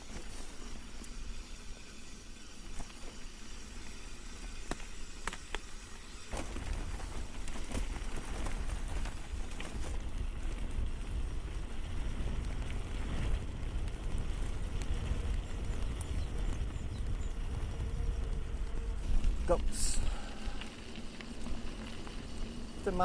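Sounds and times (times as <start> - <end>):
bike tyres rattling on stones: 0.0 - 23.0
low rumble of wind noise: 0.0 - 23.0.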